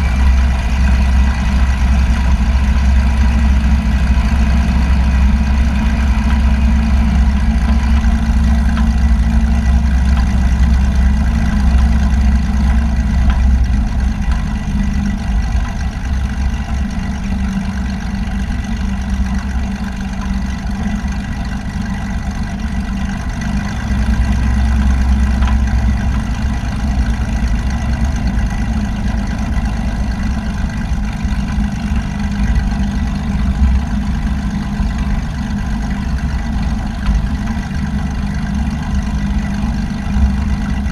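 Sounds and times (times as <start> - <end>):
aircraft piston engine droning: 0.0 - 40.9.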